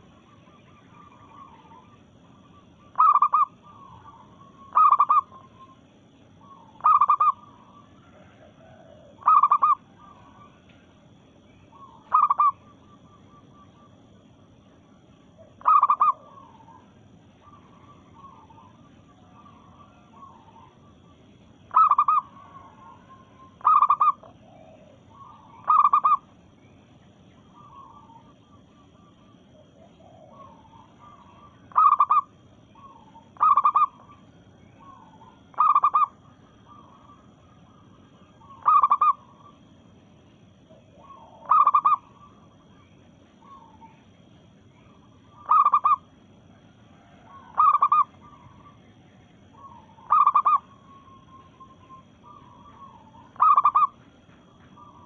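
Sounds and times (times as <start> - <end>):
dove cooing: 0.0 - 10.6, 11.6 - 14.1, 15.2 - 26.5, 27.4 - 39.8, 40.6 - 44.1, 44.7 - 55.0.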